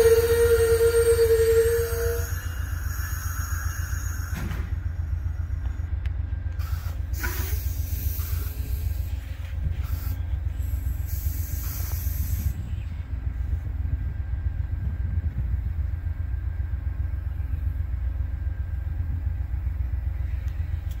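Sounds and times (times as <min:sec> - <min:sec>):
passenger train rolling past: 0:00.0 - 0:21.0.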